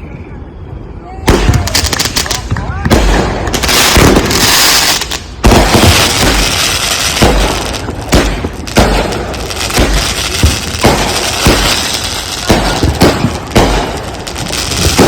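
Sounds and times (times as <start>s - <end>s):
firework crackling and hiss: 1.3s - 15.0s
firework shells booming: 1.3s - 15.0s.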